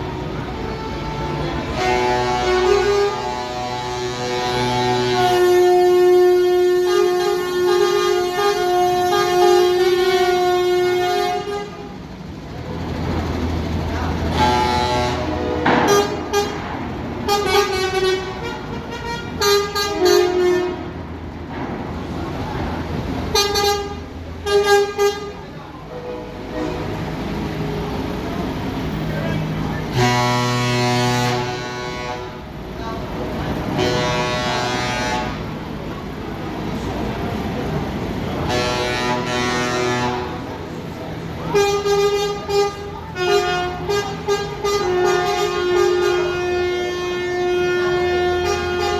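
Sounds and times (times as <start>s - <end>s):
truck horns honking: 0.0s - 48.9s.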